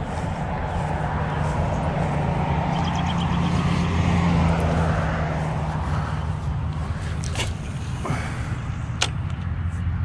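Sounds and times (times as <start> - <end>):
distant engine droning: 0.0 - 10.0.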